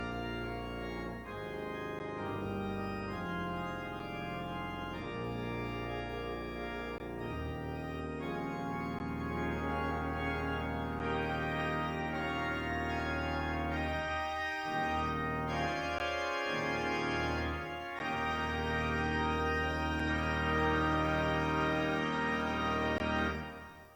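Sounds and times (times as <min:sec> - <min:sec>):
organ playing chords: 0:00.0 - 0:23.9.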